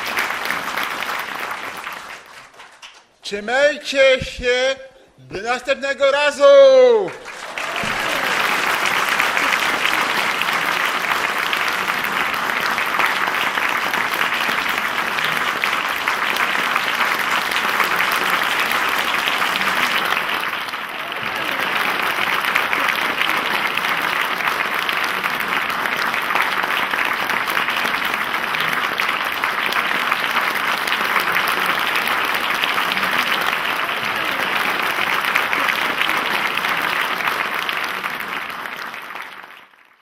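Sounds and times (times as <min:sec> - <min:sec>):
large audience applauding: 0:00.0 - 0:03.2, 0:06.1 - 0:40.0.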